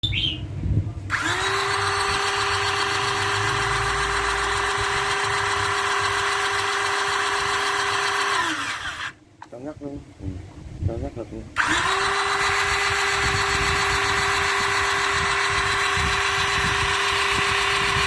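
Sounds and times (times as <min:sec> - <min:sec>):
pump motor whining: 0:01.1 - 0:09.2, 0:11.6 - 0:18.0.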